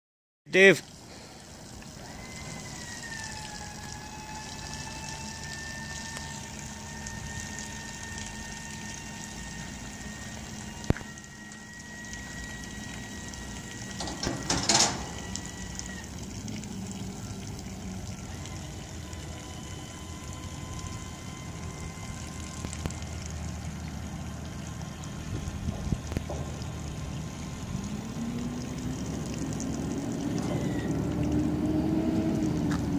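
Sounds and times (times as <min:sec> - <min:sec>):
low steady hum: 0:00.8 - 0:32.9
motorized hand rail whine: 0:01.0 - 0:32.9.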